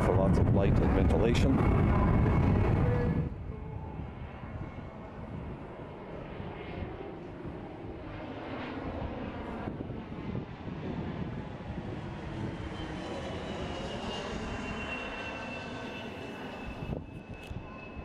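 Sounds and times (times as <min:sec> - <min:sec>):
steady mechanical drone: 0:00.0 - 0:18.0.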